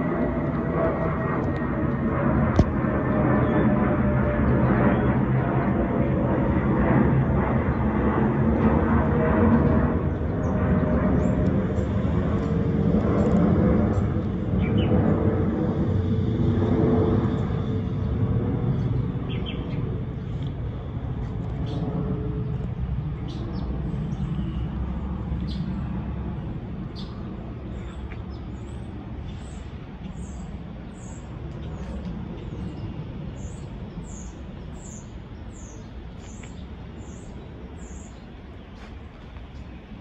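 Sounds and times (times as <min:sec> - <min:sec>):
jet engines rumbling overhead: 0:00.0 - 0:40.0.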